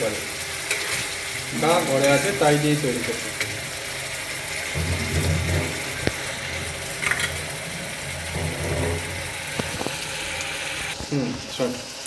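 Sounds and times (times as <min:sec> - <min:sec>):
fish curry sizzling: 0:00.0 - 0:12.0.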